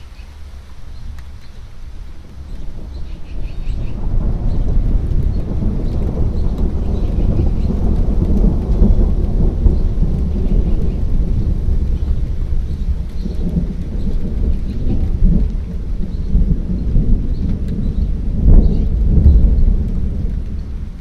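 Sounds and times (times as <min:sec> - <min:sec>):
thunder rumbling: 0:00.9 - 0:21.0.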